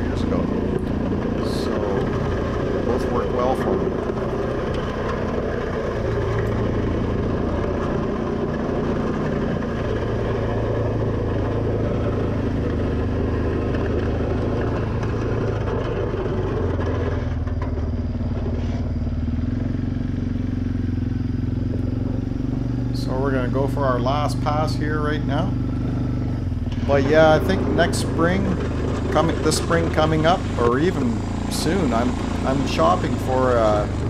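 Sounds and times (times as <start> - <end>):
atv engine under load: 0.0 - 34.0.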